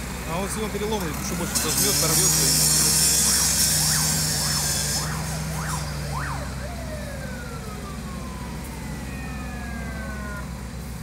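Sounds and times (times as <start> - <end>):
low engine hum: 0.0 - 11.0
emergency siren: 2.1 - 11.0.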